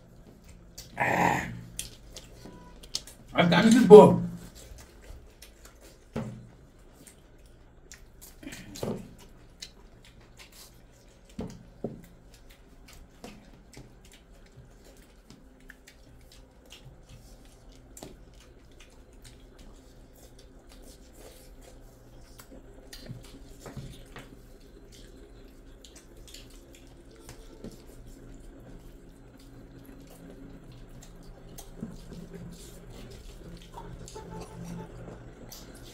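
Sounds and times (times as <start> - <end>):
low steady hum: 0.0 - 35.9
wet chewing and lip smacking: 0.1 - 3.3, 4.4 - 35.9.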